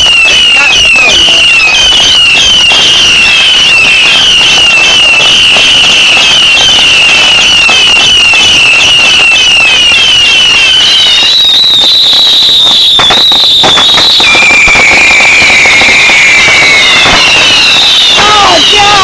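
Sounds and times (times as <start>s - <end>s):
fireworks crackling and banging: 0.0s - 19.0s
high chirping whistle: 0.0s - 19.0s.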